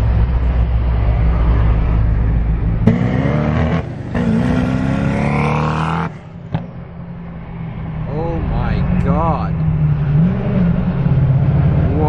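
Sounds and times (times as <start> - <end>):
car engine drone inside cabin: 0.0 - 12.0
engine accelerating hard: 0.0 - 12.0.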